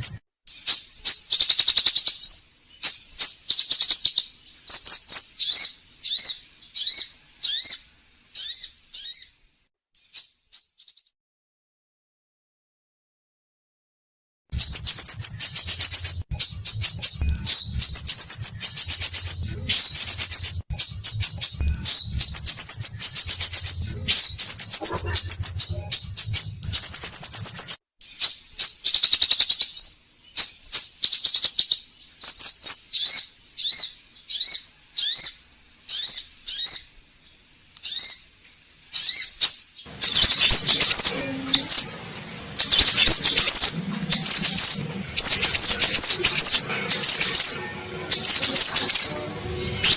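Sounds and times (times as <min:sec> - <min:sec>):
bird chirping song: 0:00.0 - 0:11.1, 0:14.5 - 0:49.9.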